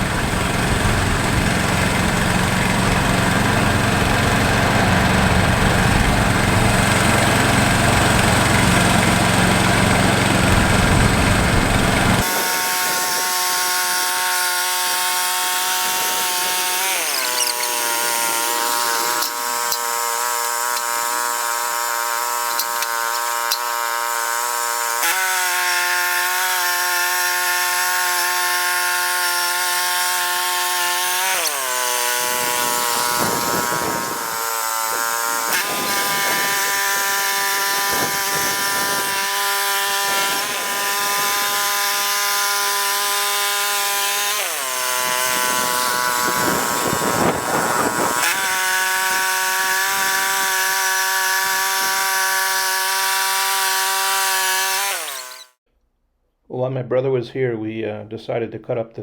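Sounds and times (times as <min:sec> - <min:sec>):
band sawmill cutting wood: 0:00.0 - 0:55.6.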